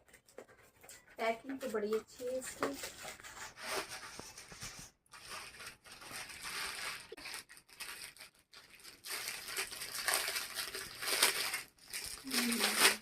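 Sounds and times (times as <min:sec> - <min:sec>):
packaging rustling: 0:02.3 - 0:13.0.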